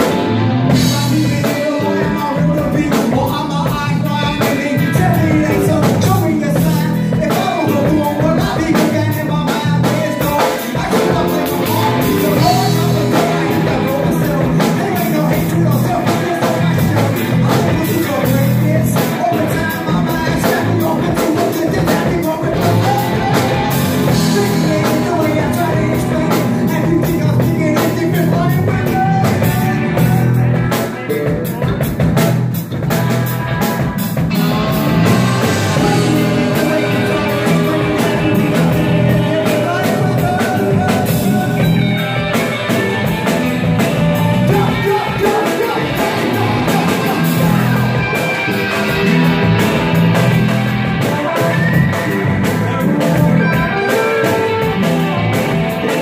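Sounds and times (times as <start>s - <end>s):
person singing: 0.0s - 32.3s, 33.2s - 56.0s
drums: 0.0s - 56.0s
electric guitar: 0.0s - 56.0s.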